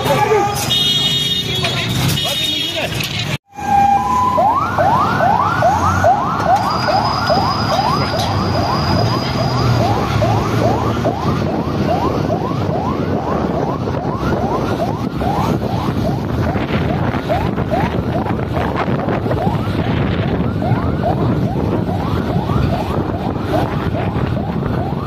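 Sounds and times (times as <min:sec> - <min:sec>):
engines and road traffic: 0:00.0 - 0:25.0
police siren yelping: 0:03.5 - 0:25.0.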